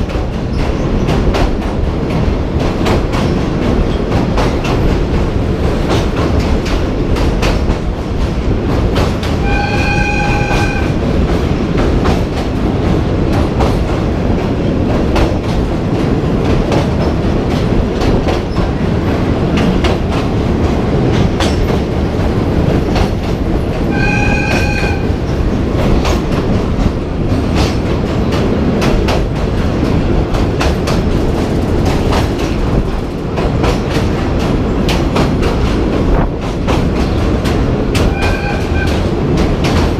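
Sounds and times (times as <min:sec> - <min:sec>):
train rumbling over rail joints: 0:00.0 - 0:39.9.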